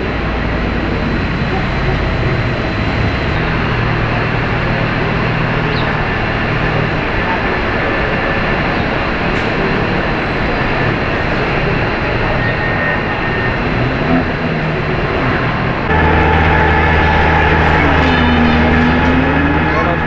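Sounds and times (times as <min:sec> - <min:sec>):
jet engines running: 0:00.0 - 0:20.0
loud hum with low tones: 0:00.0 - 0:20.0.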